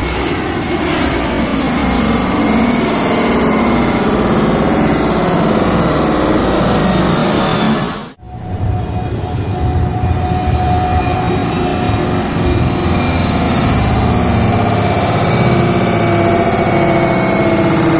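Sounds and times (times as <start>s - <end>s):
jet airliner passing overhead: 0.0s - 17.9s.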